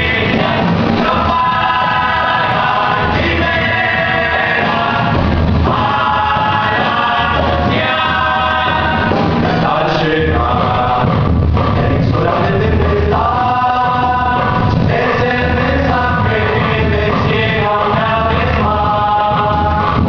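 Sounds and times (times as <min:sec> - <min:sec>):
chorus of voices singing: 0:00.0 - 0:20.0
instrumental accompaniment: 0:00.0 - 0:20.0
low bass notes: 0:00.0 - 0:20.0.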